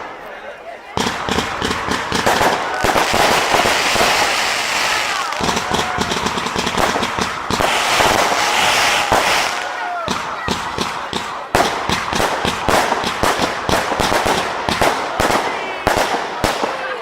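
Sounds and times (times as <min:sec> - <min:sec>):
fireworks crackling and banging: 0:00.0 - 0:17.0
loud firework report: 0:00.0 - 0:17.0.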